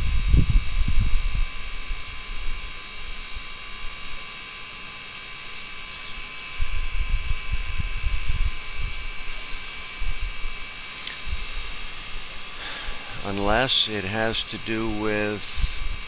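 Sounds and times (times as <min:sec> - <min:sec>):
high-pitched electrical hum: 0:00.0 - 0:16.0.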